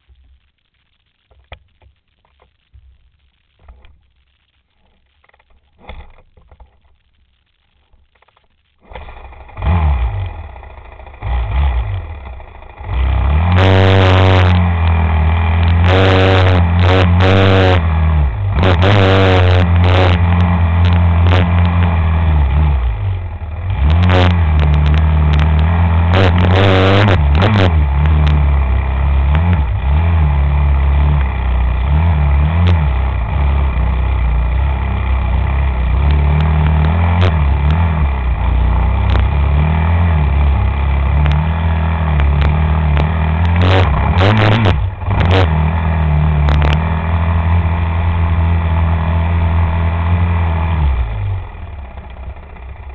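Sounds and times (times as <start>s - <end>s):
vehicle engine running: 8.2s - 52.9s.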